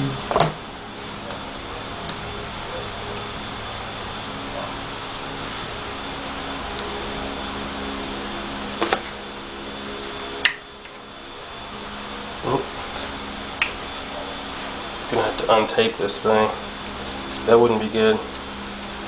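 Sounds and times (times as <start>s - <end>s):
small electric motor running: 0.0s - 19.0s.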